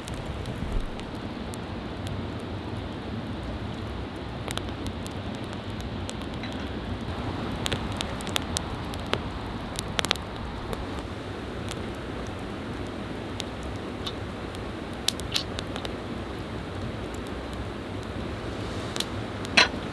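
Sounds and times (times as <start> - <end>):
campfire hissing: 0.0 - 19.9
fire crackles and pops: 0.0 - 19.9.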